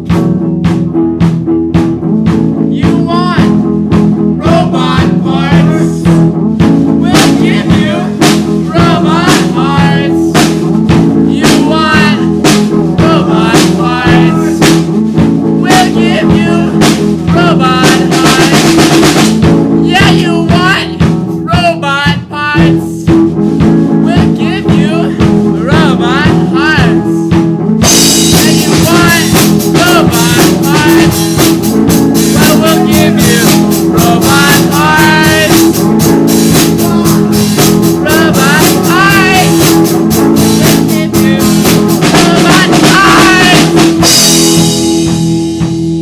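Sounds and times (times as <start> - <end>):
band song with vocals: 0.0 - 46.0
drum kit: 0.0 - 46.0
guitar: 0.0 - 46.0
person singing: 2.6 - 3.7, 4.3 - 19.2, 19.8 - 23.2, 23.8 - 45.2.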